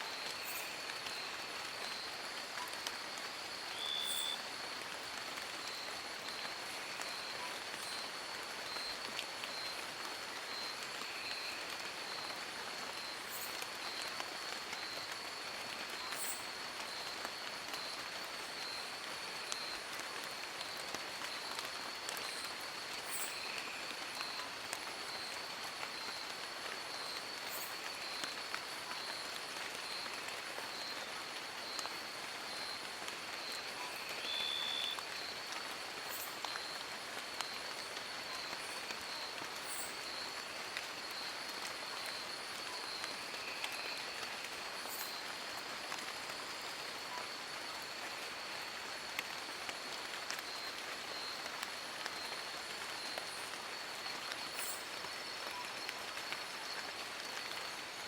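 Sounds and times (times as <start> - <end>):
rain pattering on leaves: 0.0 - 58.0.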